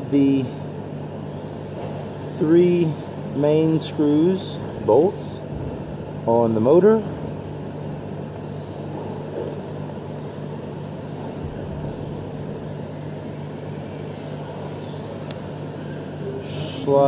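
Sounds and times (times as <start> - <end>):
air conditioning running: 0.0 - 17.0.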